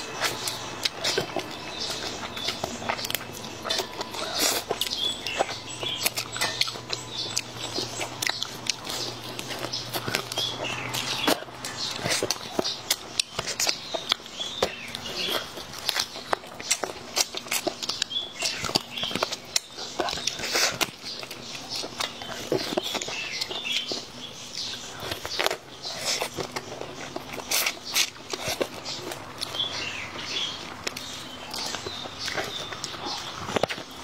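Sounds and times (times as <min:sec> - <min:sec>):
person chewing and lip-smacking: 0:00.0 - 0:34.0.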